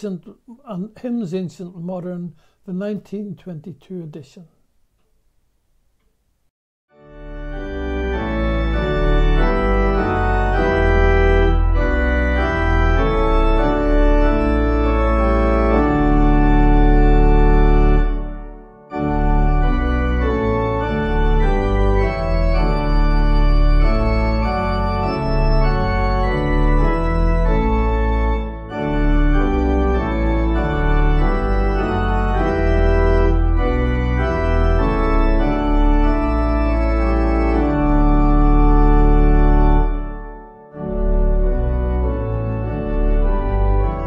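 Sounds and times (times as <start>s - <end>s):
organ playing hymn chords: 6.9s - 44.0s.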